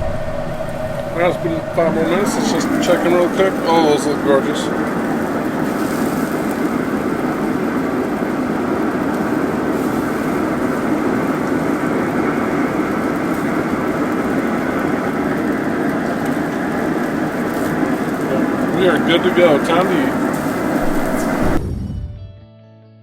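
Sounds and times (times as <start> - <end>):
grill fire rushing: 0.0 - 21.9.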